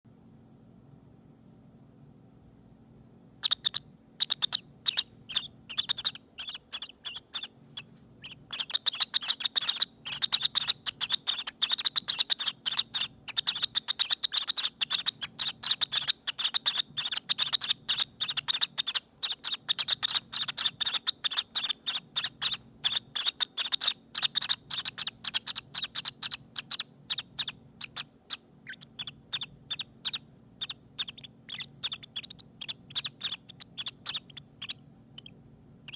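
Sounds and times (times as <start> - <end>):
lovebird chicks peeping: 3.4 - 35.9.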